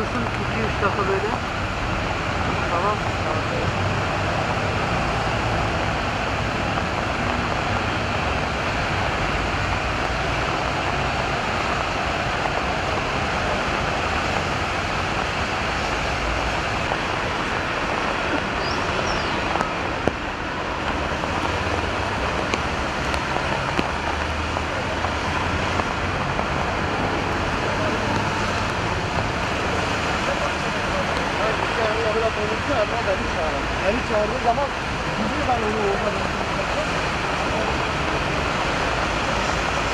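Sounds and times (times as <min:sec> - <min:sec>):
car and bus engines running: 0:00.0 - 0:39.9
tyres hissing on wet road: 0:00.0 - 0:39.9.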